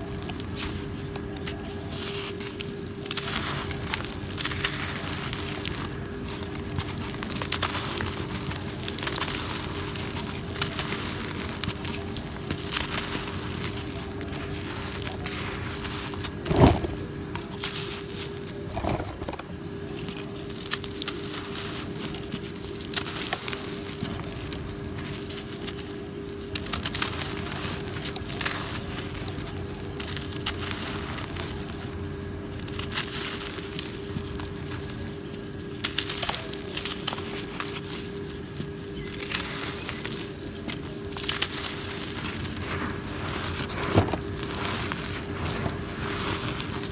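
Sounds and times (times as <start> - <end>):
cement chunk crunching: 0.0 - 46.9
hands crumbling dry cement: 0.0 - 46.9.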